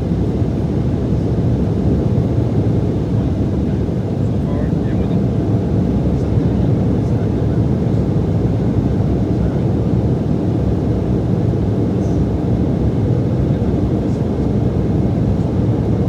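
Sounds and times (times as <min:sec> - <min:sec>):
jet cabin engine and airflow noise: 0:00.0 - 0:16.0.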